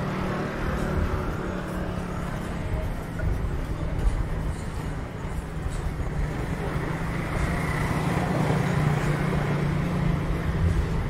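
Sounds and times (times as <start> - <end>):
road noise: 0.0 - 11.0
vehicle engine humming: 0.0 - 11.0.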